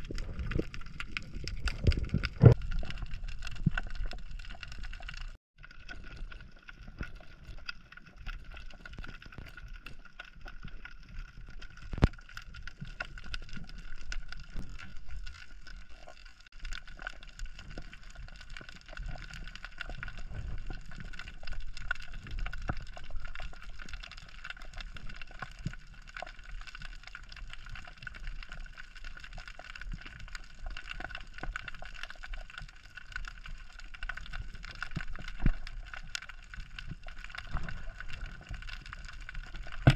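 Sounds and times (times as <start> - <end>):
crackling clicks: 0.0 - 39.9
underwater rumble of moving water: 0.0 - 39.9.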